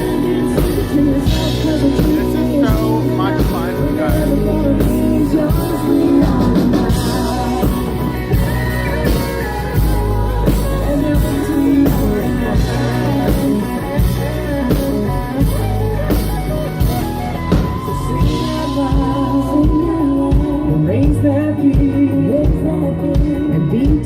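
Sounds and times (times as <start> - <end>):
person singing: 0.0 - 16.0, 16.8 - 24.0
country-rock band playing: 0.0 - 24.0
steady drum beat: 0.0 - 24.0.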